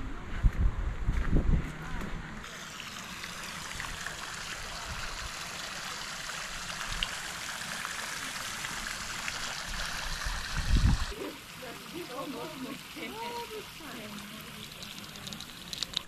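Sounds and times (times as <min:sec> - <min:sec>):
fountain water splashing: 0:02.4 - 0:16.0.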